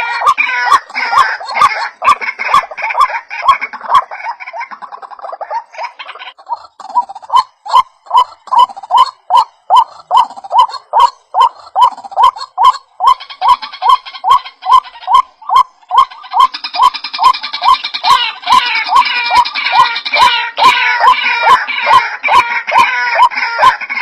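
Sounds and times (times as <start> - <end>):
waterhen call: 0.0 - 24.0.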